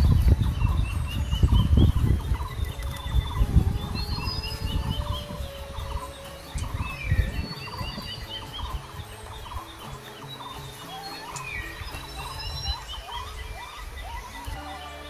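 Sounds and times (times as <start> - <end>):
bird chirping phrase: 0.0 - 15.0
thin high chirps: 0.0 - 15.0.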